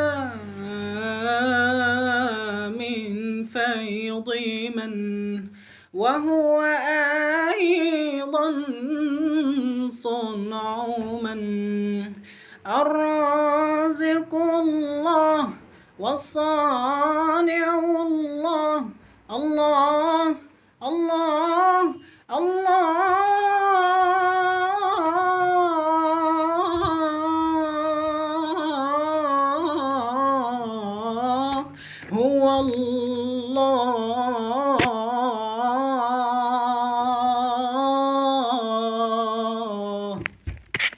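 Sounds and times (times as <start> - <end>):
person singing wordless melody: 0.0 - 40.2.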